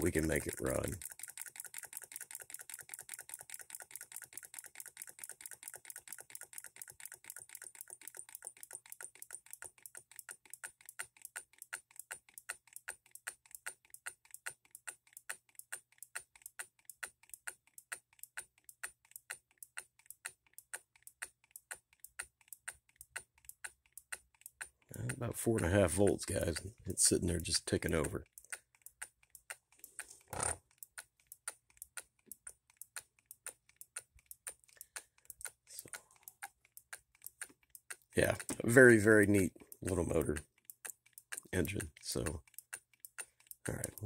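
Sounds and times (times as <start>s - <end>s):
model solenoid engine ticking: 0.0s - 44.0s.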